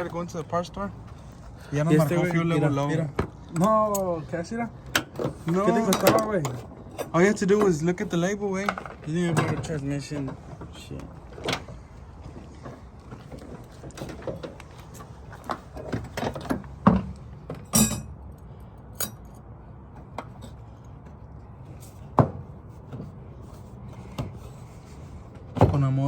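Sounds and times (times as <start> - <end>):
low steady background noise: 0.0 - 26.0.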